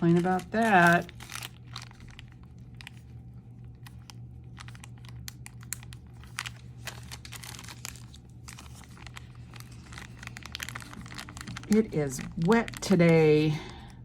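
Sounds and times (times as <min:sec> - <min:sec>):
packaging crinkling and rustling: 0:00.0 - 0:14.0
steady low hum: 0:00.0 - 0:14.0.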